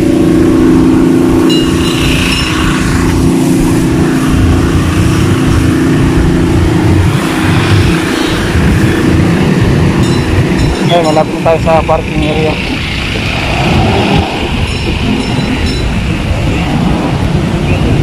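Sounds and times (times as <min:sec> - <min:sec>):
engine running steadily: 0:00.0 - 0:18.0
unsteady low rumble: 0:00.0 - 0:18.0.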